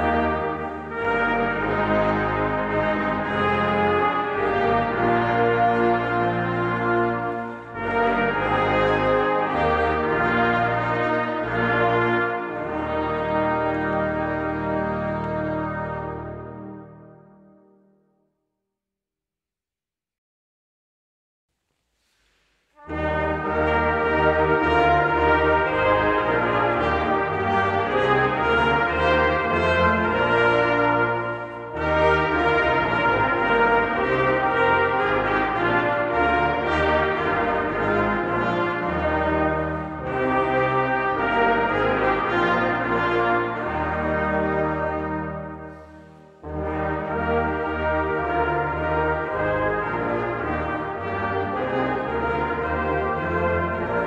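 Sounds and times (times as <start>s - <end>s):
brass choir playing chords: 0.0s - 18.1s, 22.8s - 54.0s.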